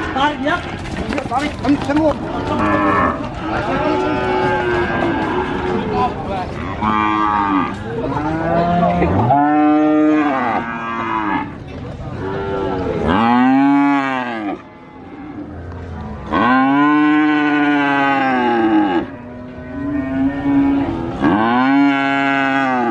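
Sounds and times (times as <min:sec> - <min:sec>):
cow mooing: 0:02.3 - 0:06.0, 0:06.6 - 0:11.6, 0:12.2 - 0:22.9.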